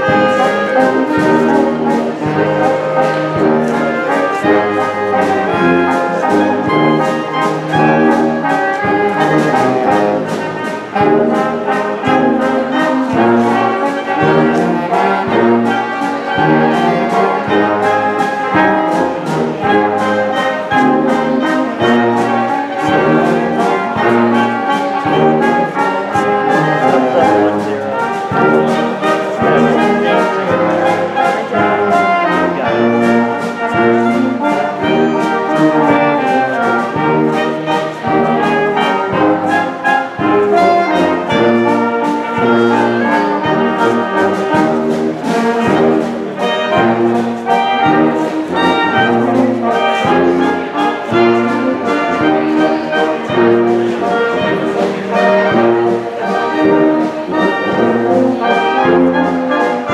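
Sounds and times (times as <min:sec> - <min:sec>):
brass band playing a tune: 0:00.0 - 0:59.9
tuba bass line: 0:00.0 - 0:59.9.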